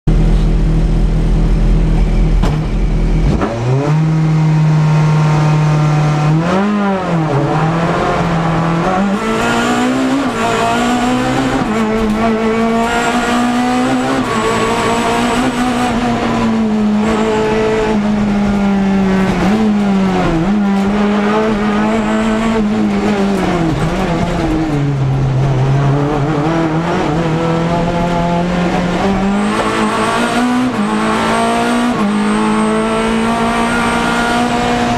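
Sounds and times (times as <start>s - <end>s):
race car engine accelerating: 0.1s - 34.9s.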